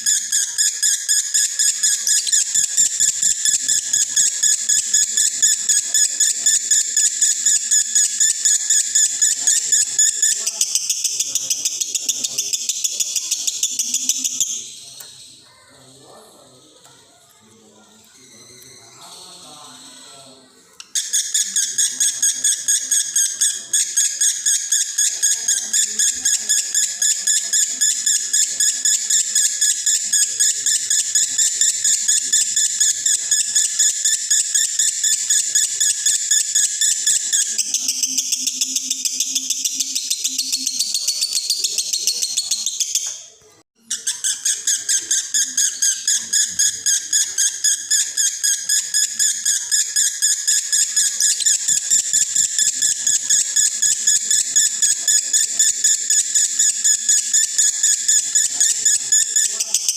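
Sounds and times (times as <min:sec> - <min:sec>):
lovebird chattering song: 0:00.0 - 0:16.6, 0:18.0 - 0:59.9.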